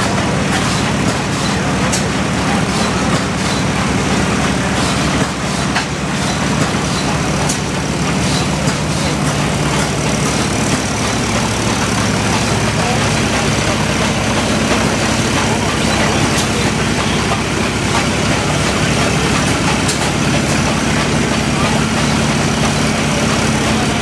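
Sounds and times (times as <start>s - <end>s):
gas engine droning: 2.4s - 24.0s.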